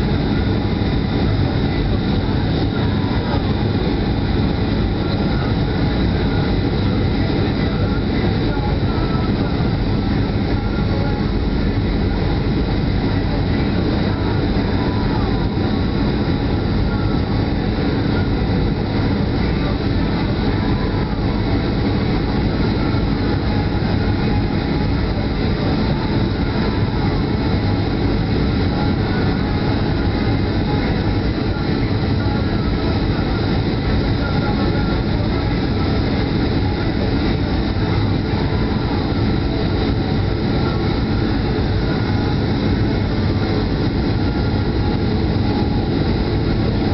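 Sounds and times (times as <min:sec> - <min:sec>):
faint high whine: 0:00.0 - 0:46.9
jet engines rushing: 0:00.0 - 0:46.9.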